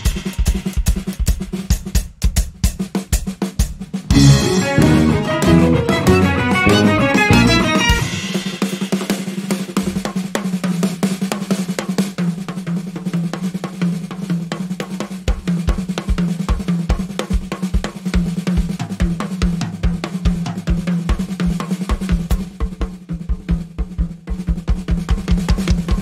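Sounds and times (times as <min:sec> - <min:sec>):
rapid bass drum kicks: 0:00.0 - 0:11.4, 0:15.2 - 0:26.0
drum kit playing: 0:00.0 - 0:26.0.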